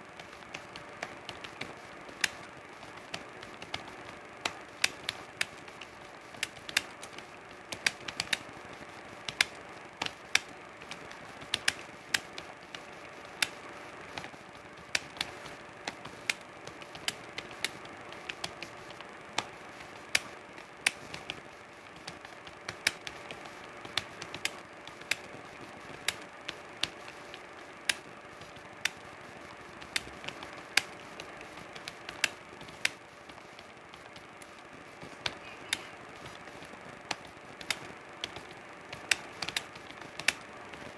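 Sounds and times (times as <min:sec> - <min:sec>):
faint steady hum: 0:00.0 - 0:40.9
keyboard typing: 0:00.0 - 0:40.9.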